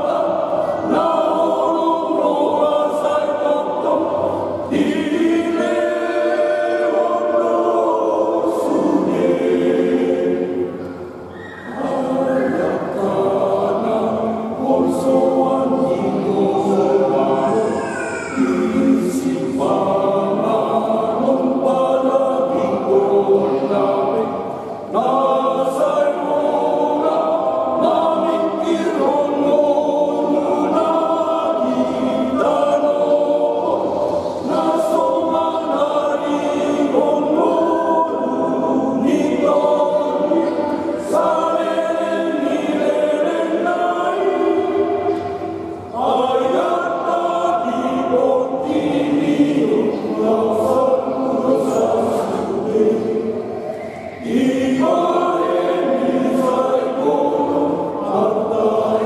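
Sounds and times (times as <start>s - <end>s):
men's choir singing a hymn: 0.0s - 59.0s.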